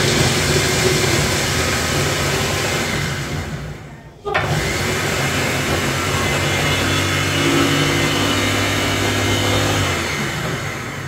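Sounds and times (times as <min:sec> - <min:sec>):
electric food chopper motor: 0:00.0 - 0:11.0.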